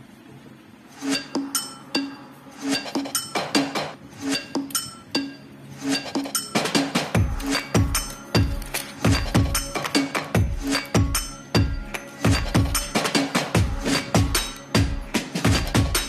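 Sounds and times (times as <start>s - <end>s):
struck ringing notes: 1.1s - 16.0s.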